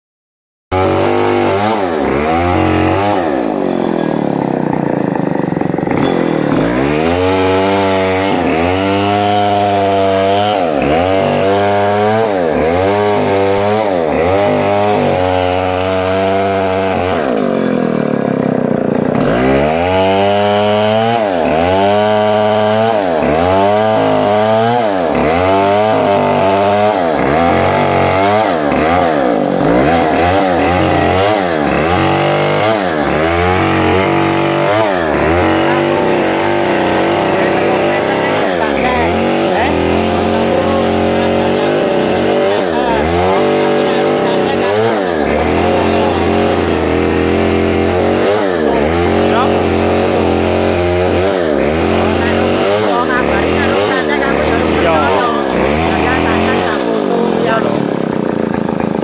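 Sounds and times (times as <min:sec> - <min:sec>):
chainsaw cutting wood: 0:00.7 - 0:59.0.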